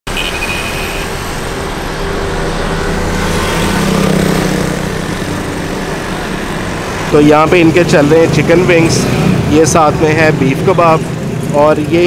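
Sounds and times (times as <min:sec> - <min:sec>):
road traffic: 0:00.0 - 0:12.0
vehicle passing close: 0:00.1 - 0:12.0.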